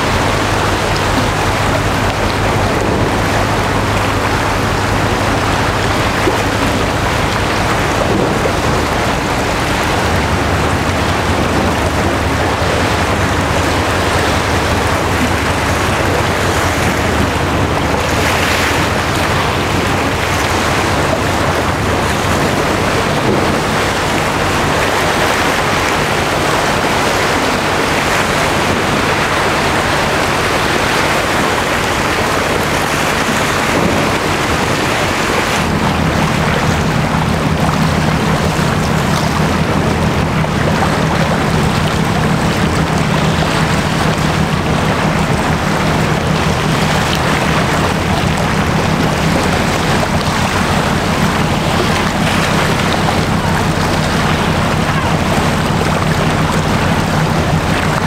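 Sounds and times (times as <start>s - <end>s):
ship engine drone: 0.0s - 58.0s
water washing: 0.0s - 58.0s
wind: 0.0s - 58.0s.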